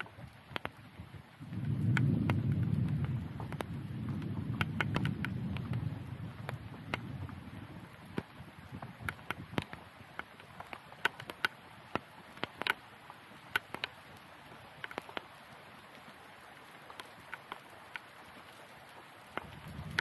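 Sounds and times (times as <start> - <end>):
faint steady hiss: 0.0 - 20.0
raindrops tapping on camera: 0.0 - 20.0.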